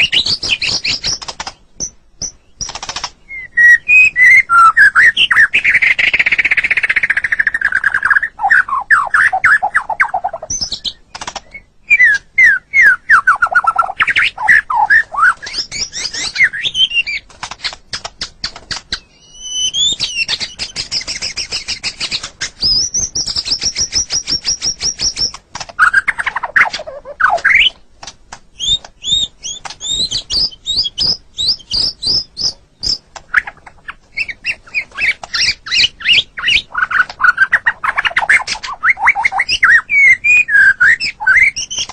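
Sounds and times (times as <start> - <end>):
bird singing varied song: 0.0 - 41.9.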